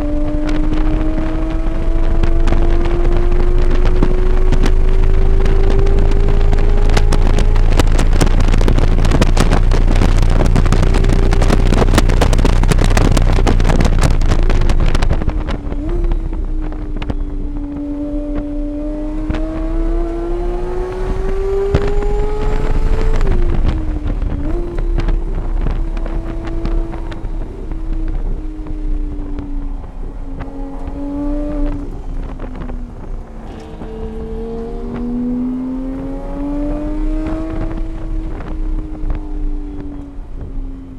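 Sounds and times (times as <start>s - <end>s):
race car engine: 0.0s - 40.9s
wind buffeting microphone: 0.0s - 40.9s.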